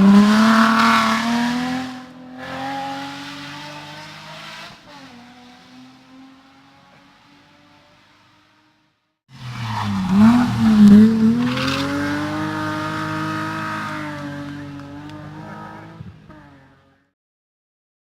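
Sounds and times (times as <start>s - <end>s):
race car engine at hard throttle: 0.0s - 17.1s.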